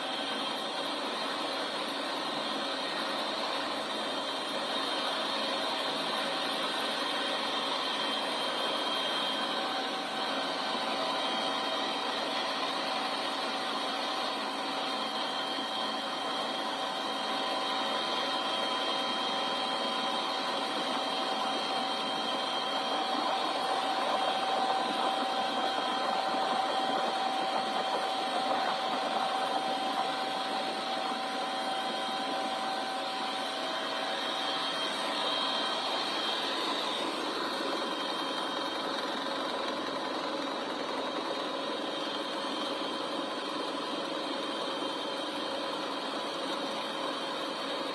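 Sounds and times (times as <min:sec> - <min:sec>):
motor droning with high whine: 0:00.0 - 0:47.9
steady engine noise: 0:00.0 - 0:47.9.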